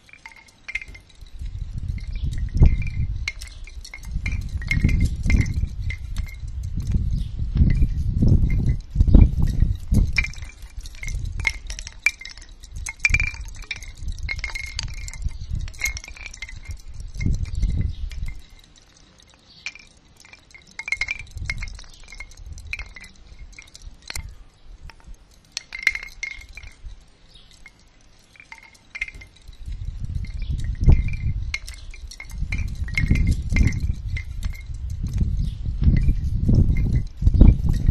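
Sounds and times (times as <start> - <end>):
wind rumble on microphone: 0.0 - 18.8, 19.7 - 27.8, 28.4 - 37.9
bamboo wind chime knocking: 0.0 - 37.9.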